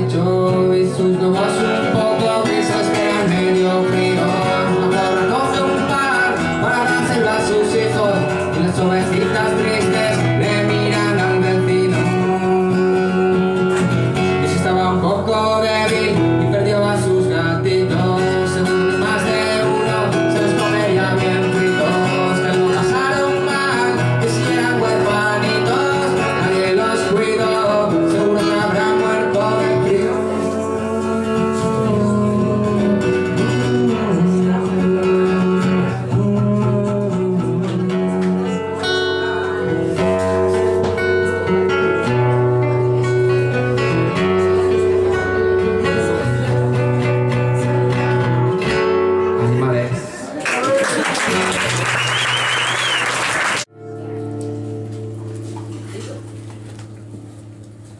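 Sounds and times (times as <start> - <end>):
man singing: 0.0 - 50.1
acoustic guitar strummed and picked: 0.0 - 50.4, 51.3 - 57.9.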